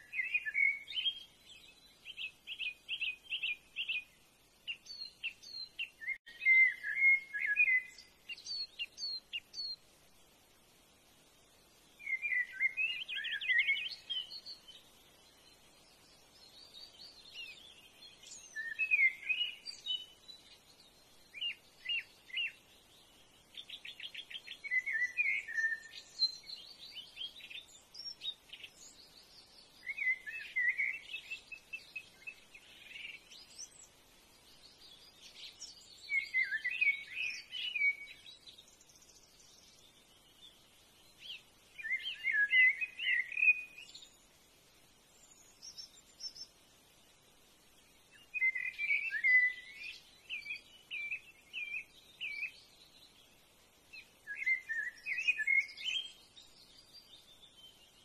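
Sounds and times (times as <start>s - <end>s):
faint high bird chirps: 0.0s - 9.9s, 11.9s - 44.4s, 45.0s - 46.8s, 47.7s - 58.0s.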